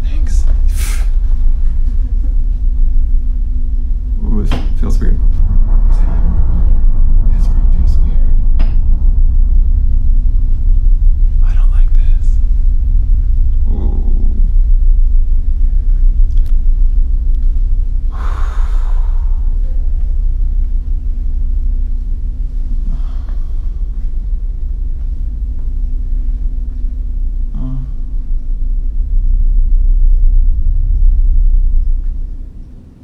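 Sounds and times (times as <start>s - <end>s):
faint steady hum: 0.0s - 33.0s
low rumble: 0.0s - 33.0s.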